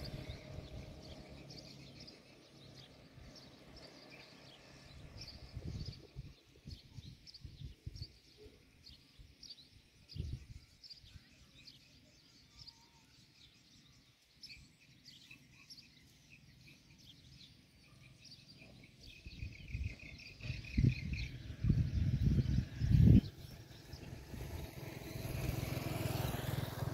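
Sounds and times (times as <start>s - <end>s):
faint rural background: 0.0s - 26.9s
small birds chirping: 0.0s - 26.9s.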